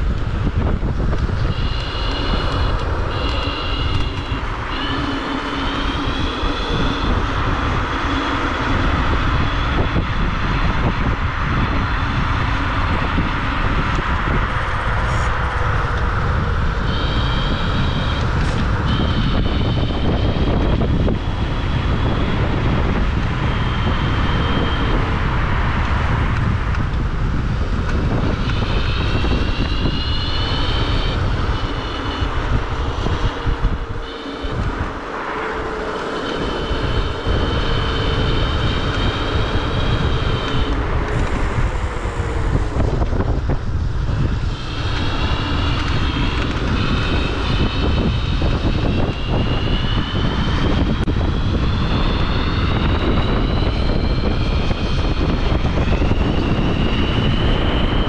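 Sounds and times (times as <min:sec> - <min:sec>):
electric scooter motor whine: 0:00.0 - 0:58.0
wind rumble on microphone: 0:00.0 - 0:58.0.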